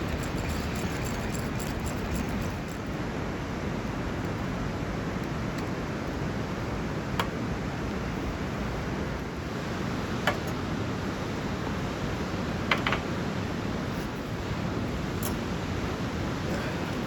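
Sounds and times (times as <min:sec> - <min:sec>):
steady rushing outdoor noise: 0:00.0 - 0:17.0.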